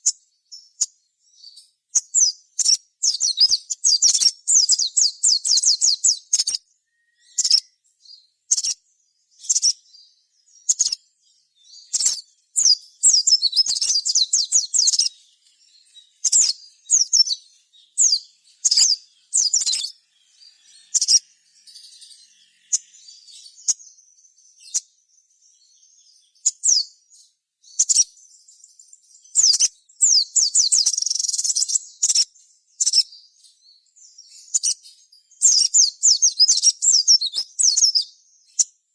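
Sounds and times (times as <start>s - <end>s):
sunbird chirping and twittering: 0.0s - 38.9s.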